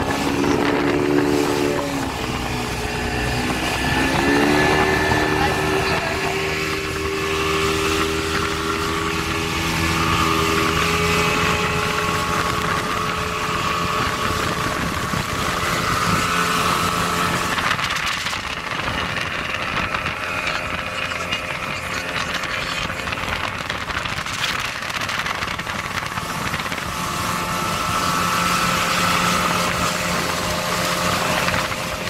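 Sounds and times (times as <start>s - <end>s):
motorboat engine drone and whine: 0.0s - 32.0s
rushing water: 0.0s - 32.0s
wind noise: 0.0s - 32.0s.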